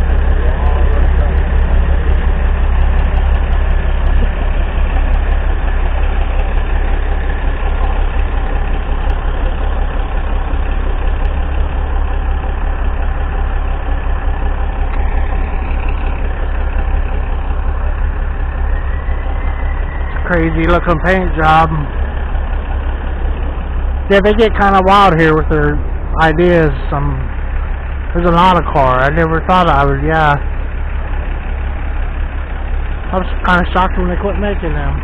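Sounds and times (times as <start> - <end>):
diesel truck engines idling: 0.0 - 35.0.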